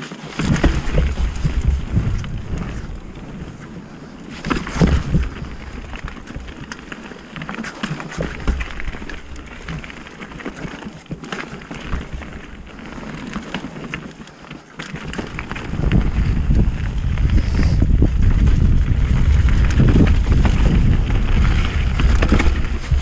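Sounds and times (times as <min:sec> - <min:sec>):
bike tyres rolling over dirt: 0:00.0 - 0:23.0
bike rattling clicks: 0:00.2 - 0:23.0
wind rumbling on microphone: 0:00.4 - 0:10.8, 0:11.5 - 0:13.6, 0:15.0 - 0:23.0.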